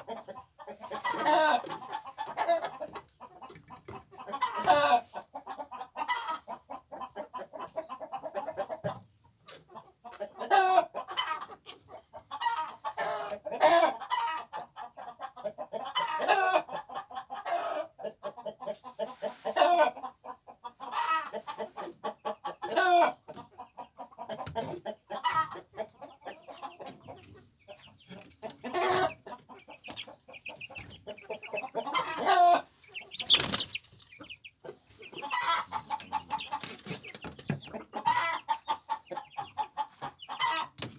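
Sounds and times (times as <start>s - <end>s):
chickens clucking and squawking: 0.0s - 40.9s.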